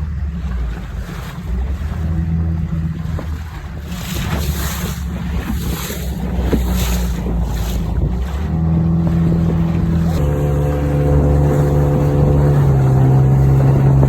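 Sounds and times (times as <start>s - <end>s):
outboard motor running: 0.0s - 14.0s
water rushing against hull: 0.0s - 14.0s
wind on microphone: 2.0s - 14.0s.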